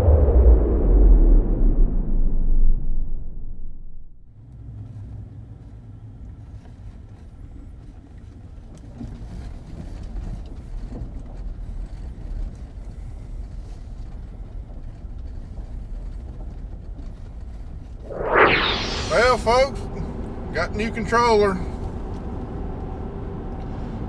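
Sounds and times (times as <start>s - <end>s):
vehicle engine and tyre rumble: 3.4s - 24.0s.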